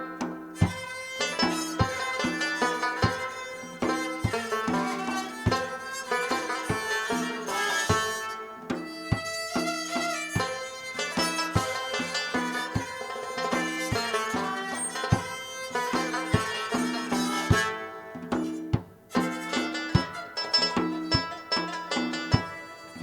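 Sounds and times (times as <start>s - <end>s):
hand drum rhythm: 0.0s - 23.0s
plucked rubab notes: 0.0s - 23.0s.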